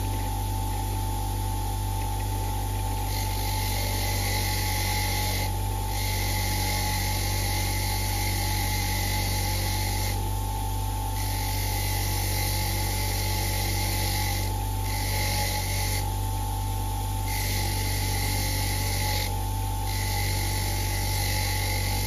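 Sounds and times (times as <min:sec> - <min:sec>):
bench grinder motor hum: 0:00.0 - 0:22.0.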